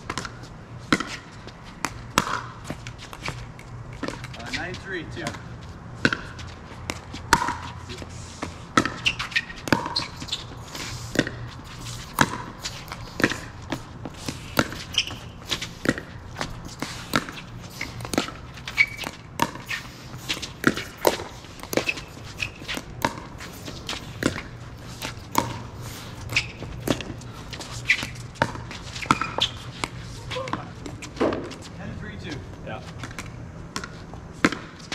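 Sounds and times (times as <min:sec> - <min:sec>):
ball bouncing: 0:00.0 - 0:08.1, 0:08.7 - 0:31.7, 0:33.0 - 0:34.9
footsteps on court: 0:00.0 - 0:34.9.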